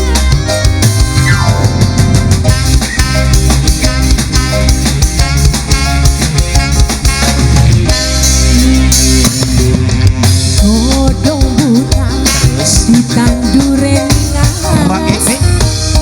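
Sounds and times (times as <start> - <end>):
drum kit beat: 0.0 - 16.0
live band instrumental: 0.0 - 16.0.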